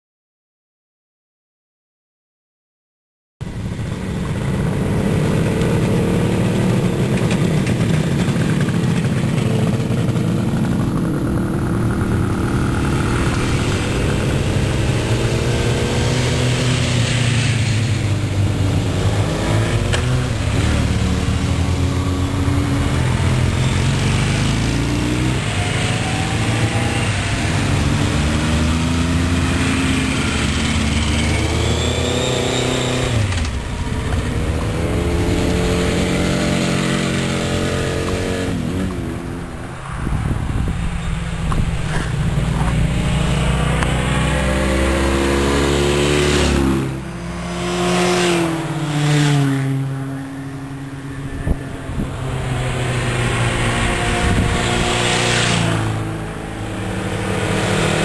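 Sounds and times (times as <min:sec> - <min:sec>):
motorcycle engines running: 0:03.4 - 0:58.0
motorcycles riding past: 0:03.5 - 0:58.0.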